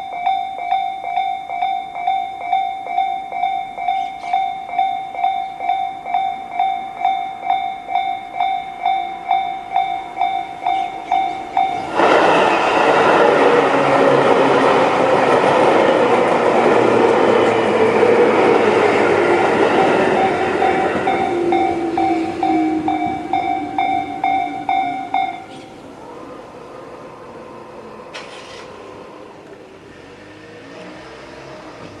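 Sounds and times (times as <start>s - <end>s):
crossing warning bell ringing: 0.0s - 27.0s
train passing: 0.0s - 32.0s.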